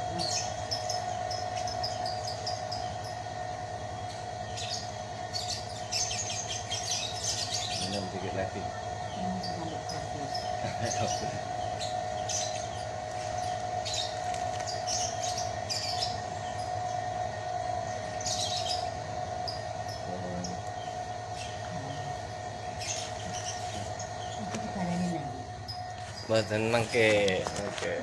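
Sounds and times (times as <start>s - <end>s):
birds chirping: 0.0s - 28.0s
steady hum: 0.0s - 28.0s.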